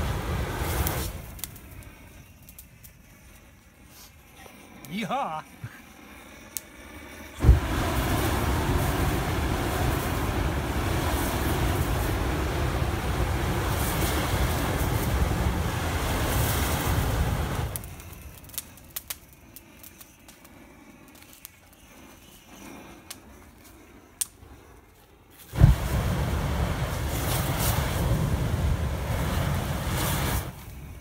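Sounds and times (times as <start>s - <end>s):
fire crackling with pops: 0.0s - 31.0s
flamethrower jet rushing: 0.0s - 31.0s.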